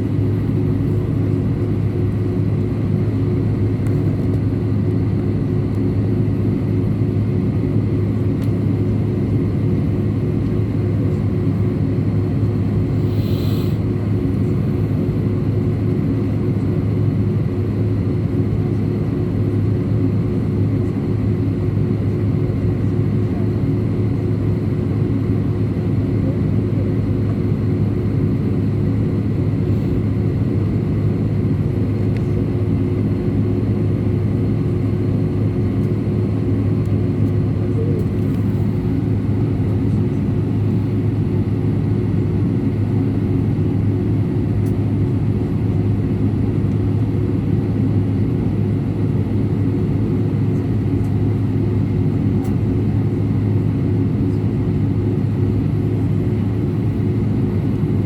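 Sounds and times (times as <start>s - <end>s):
jet engine drone in cabin: 0.0s - 58.0s.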